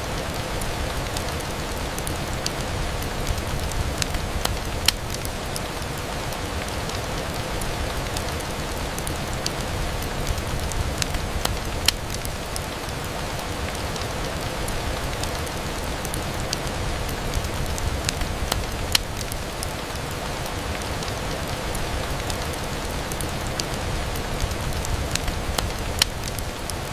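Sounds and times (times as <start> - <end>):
rain on a window pane: 0.0 - 26.9.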